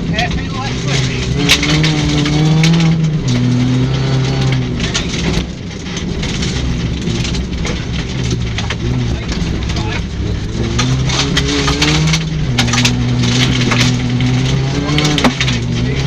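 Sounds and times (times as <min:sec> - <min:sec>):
rally car engine running hard: 0:00.0 - 0:16.0
sharp clicks and knocks: 0:00.1 - 0:16.0.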